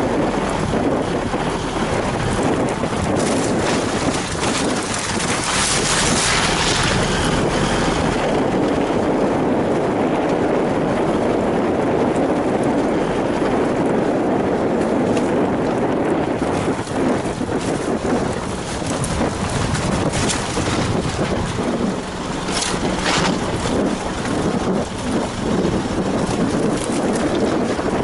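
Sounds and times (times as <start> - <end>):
tyres on muddy track: 0.0 - 16.3, 17.0 - 28.0
wind on microphone: 0.0 - 28.0.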